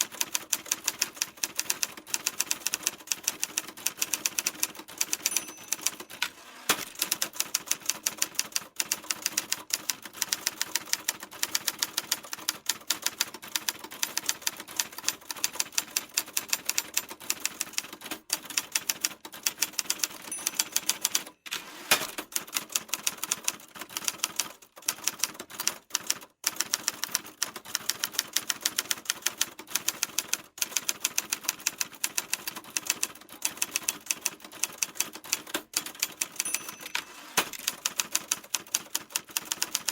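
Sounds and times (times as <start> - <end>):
typewriter keys clacking: 0.0 - 39.9.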